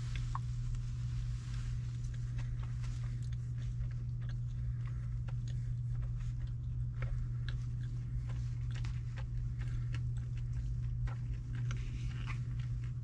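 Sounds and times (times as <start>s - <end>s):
person chewing: 0.0s - 13.0s
steady low hum: 0.0s - 13.0s.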